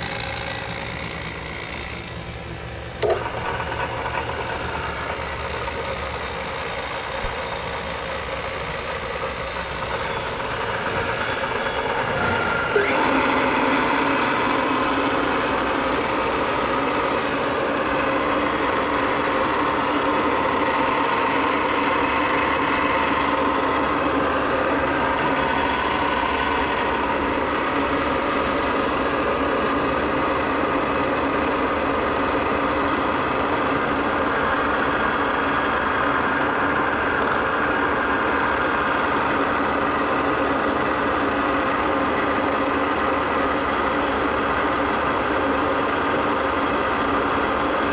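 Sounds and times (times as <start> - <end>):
milling machine motor humming: 0.0 - 47.9.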